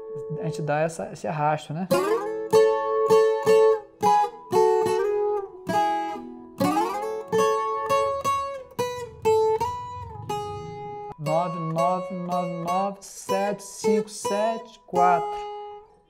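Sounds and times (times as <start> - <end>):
plucked folk guitar melody: 1.9 - 16.0.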